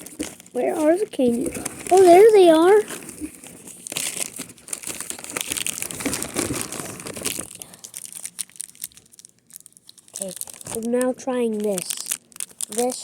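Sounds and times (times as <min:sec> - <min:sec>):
plastic wrappers crinkling: 0:00.0 - 0:13.0.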